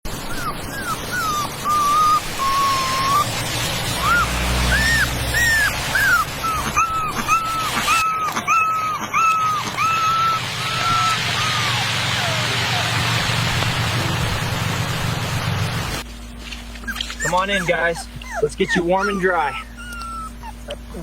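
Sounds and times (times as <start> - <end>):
puppies whining: 0.1 - 14.2, 16.6 - 21.0.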